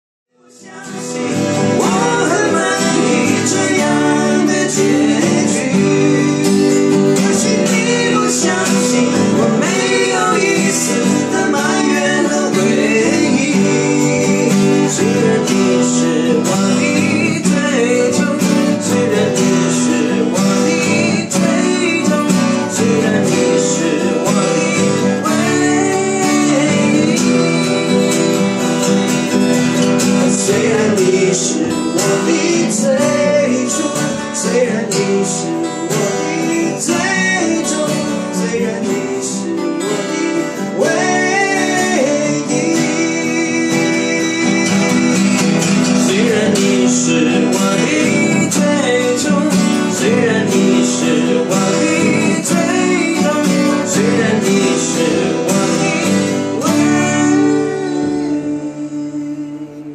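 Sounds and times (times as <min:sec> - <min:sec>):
acoustic guitars strumming: 0:00.4 - 0:59.9
men singing a ballad: 0:00.4 - 0:59.9.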